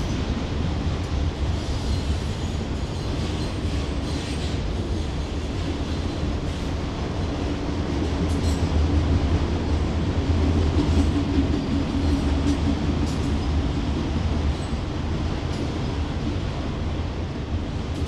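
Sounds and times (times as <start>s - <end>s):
rail cars clicking and rattling: 0.0s - 18.0s
train wheels rumbling on rail: 0.0s - 18.0s.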